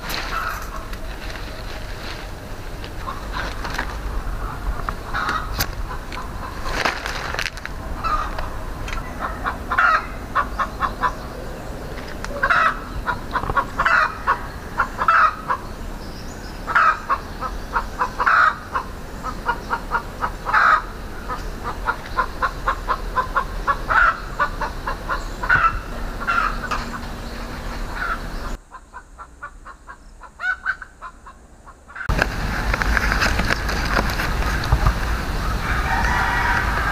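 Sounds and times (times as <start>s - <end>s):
hen clucking: 0.0s - 15.8s, 16.6s - 36.9s.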